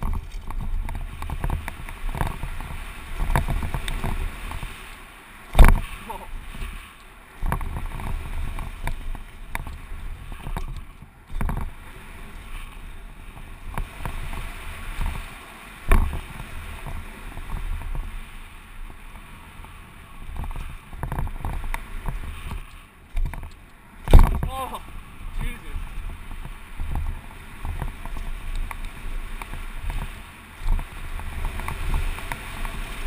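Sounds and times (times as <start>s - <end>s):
bike knocks and rattles: 0.0s - 11.8s, 13.3s - 18.1s, 20.3s - 24.6s, 25.3s - 33.0s
bike tyres rolling on dirt: 0.0s - 33.0s
wind over camera: 0.0s - 33.0s.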